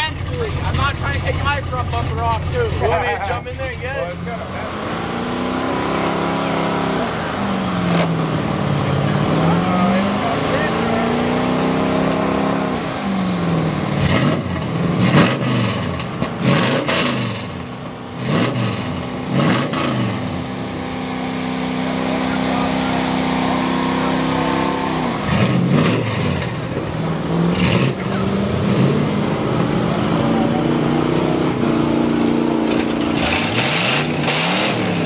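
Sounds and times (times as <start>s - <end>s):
truck engine revving: 0.0s - 35.0s.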